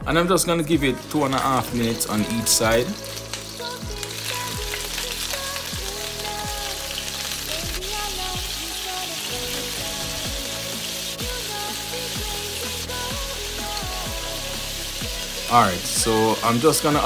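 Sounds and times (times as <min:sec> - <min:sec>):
background music with beat: 0:00.0 - 0:17.0
chicken sizzling in oil: 0:00.9 - 0:17.0.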